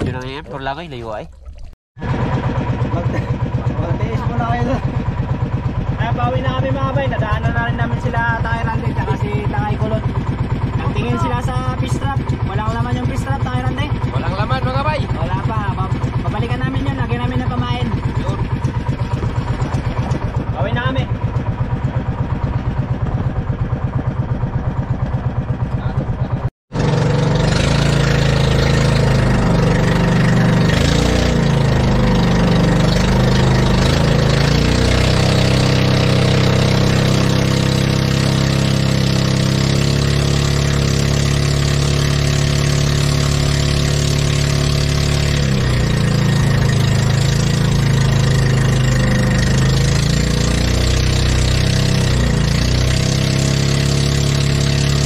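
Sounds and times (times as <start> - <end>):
boat engine running: 0.0 - 55.0
wind: 0.0 - 55.0.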